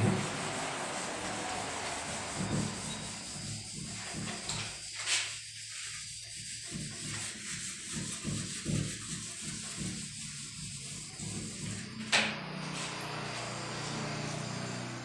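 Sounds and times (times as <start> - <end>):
hand rubbing whiteboard: 0.0 - 12.0.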